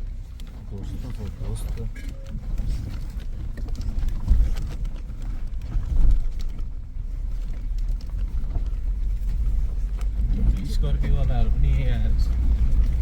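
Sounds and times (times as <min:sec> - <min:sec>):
engine and drivetrain rumble: 0:00.0 - 0:13.0.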